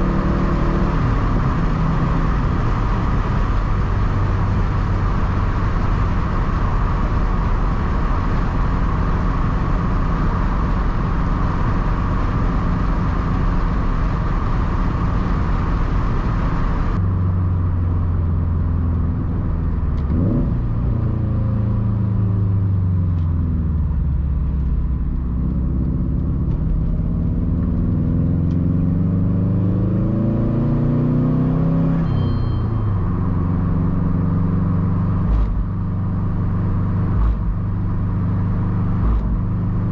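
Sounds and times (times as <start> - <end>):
car engine and exhaust: 0.0 - 39.9
road noise: 0.0 - 39.9.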